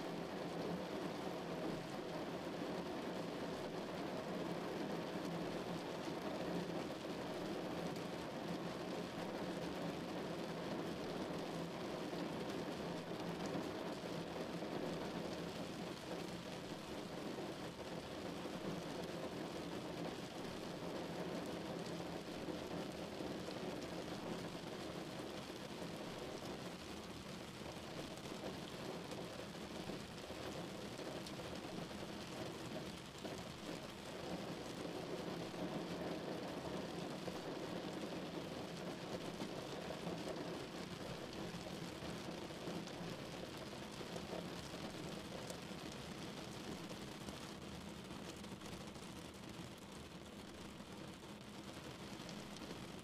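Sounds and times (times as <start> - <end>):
rain hissing on a car: 0.0 - 53.0.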